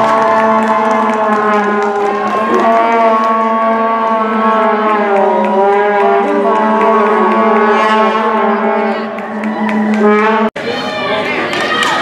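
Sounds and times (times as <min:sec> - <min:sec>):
goal horn blast: 0:00.0 - 0:10.6.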